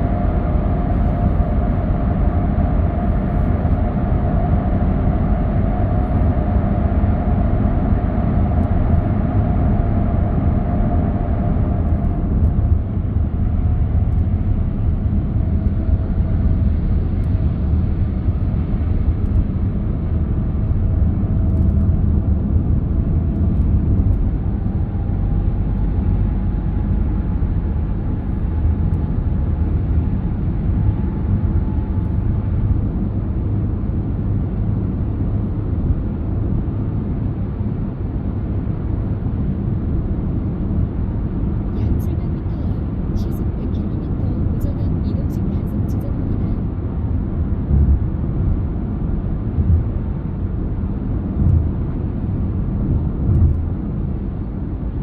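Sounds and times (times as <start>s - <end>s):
faint whine: 0.0s - 55.0s
road and tyre rumble: 0.0s - 55.0s.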